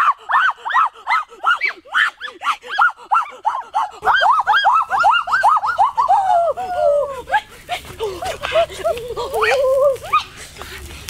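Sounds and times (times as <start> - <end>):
boys shouting excitedly: 0.0 - 10.3.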